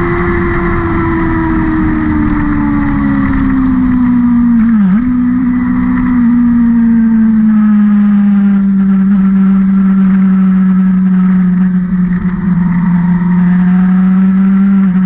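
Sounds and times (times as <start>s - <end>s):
racing engine running: 0.0s - 15.0s.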